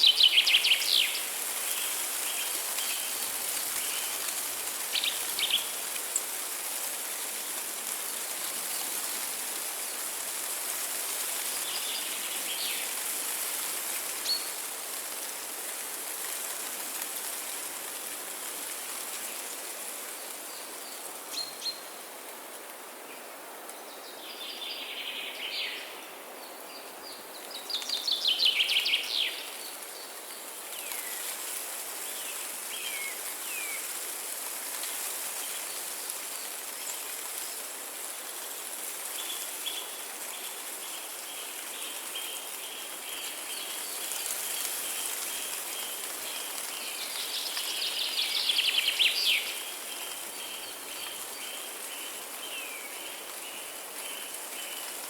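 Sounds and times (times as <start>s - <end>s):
running water hiss: 0.0s - 55.0s.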